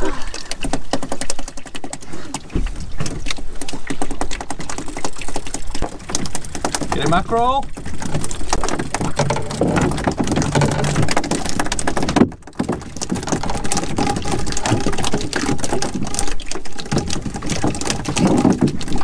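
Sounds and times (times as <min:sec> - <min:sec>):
water slapping against boat hull: 0:00.0 - 0:19.0.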